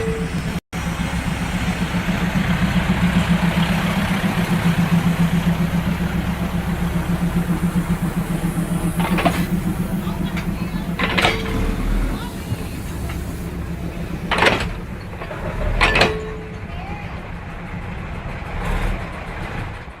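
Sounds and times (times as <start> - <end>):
engine running with fast throb: 0.0 - 20.0.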